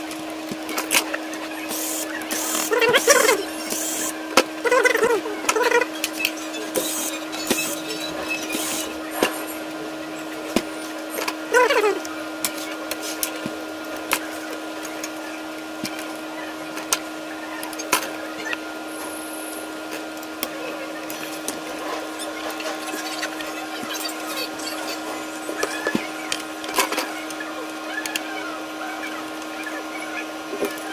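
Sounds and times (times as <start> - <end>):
steady hum: 0.0 - 30.9.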